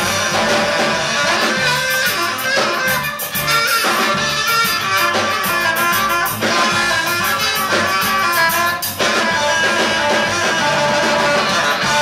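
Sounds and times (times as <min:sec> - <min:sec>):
drum kit and cymbals: 0:00.0 - 0:12.0
electric guitar: 0:00.0 - 0:12.0
live rock band playing: 0:00.0 - 0:12.0.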